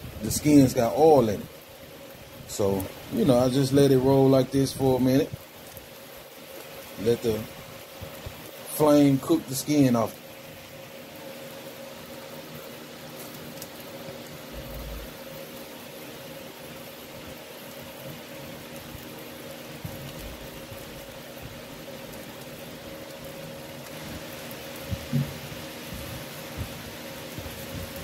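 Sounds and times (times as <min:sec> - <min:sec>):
fish sizzling on a grill: 0:00.0 - 0:28.0
faint crackles: 0:00.1 - 0:28.0.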